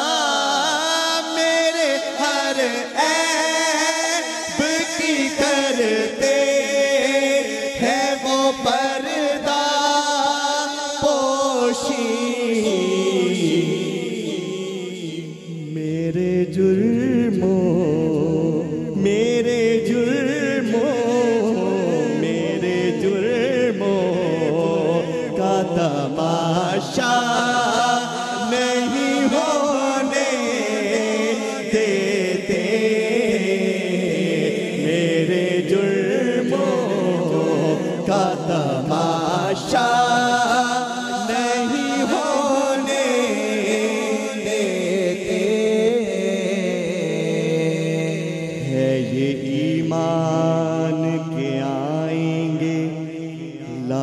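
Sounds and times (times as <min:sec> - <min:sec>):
men singing devotional song: 0:00.0 - 0:54.0.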